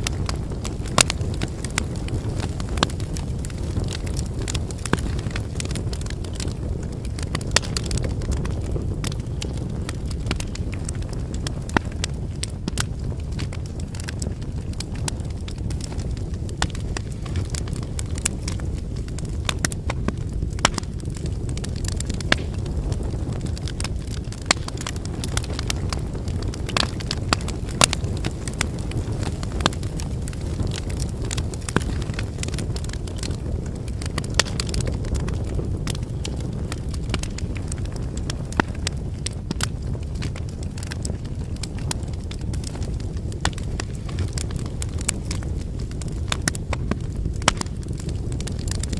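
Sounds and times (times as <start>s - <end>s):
burning logs crackling and popping: 0.0s - 48.9s
campfire flames rumbling: 0.0s - 48.9s.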